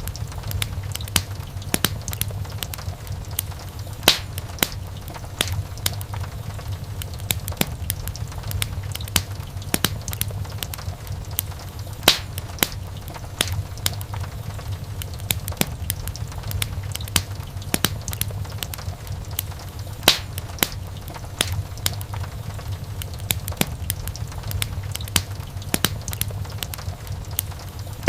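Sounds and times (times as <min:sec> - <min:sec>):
fire flames rumbling: 0:00.0 - 0:28.0
wood crackling and popping: 0:00.0 - 0:28.0.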